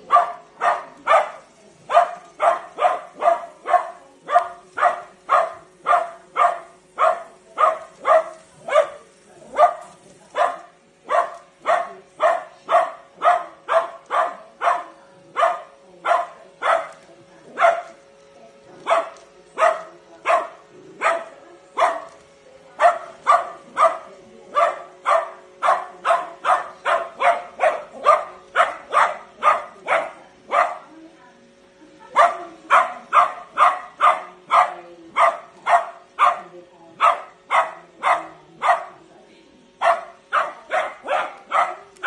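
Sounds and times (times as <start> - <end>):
small dog barking: 0.0 - 18.0, 18.8 - 22.2, 22.8 - 31.0, 32.1 - 39.0, 39.8 - 42.0.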